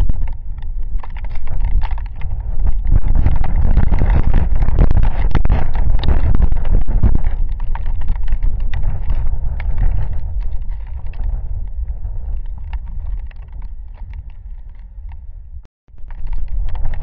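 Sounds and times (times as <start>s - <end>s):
wind gusting on microphone: 0.0s - 17.0s.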